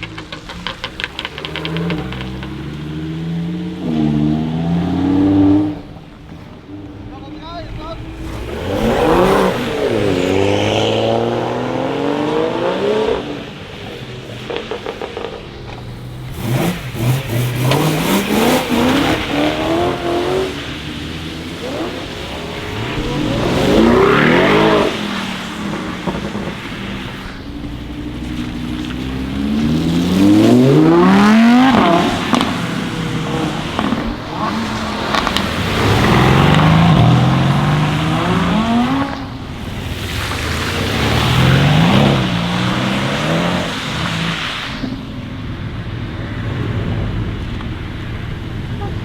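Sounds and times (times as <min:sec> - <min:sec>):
cars accelerating hard: 0:00.0 - 0:49.0.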